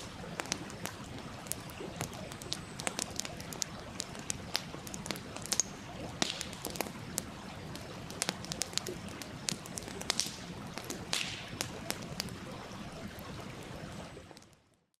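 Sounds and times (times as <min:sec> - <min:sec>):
stream running: 0:00.0 - 0:14.7
campfire crackling: 0:00.0 - 0:15.0.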